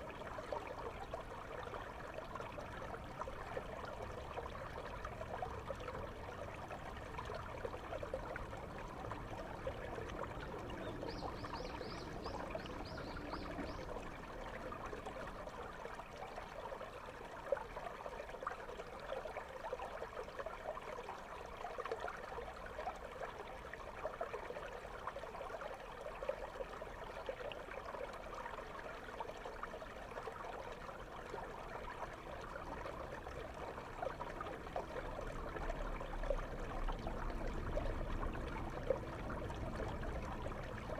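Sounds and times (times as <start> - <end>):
underwater river bubbling: 0.0 - 40.9.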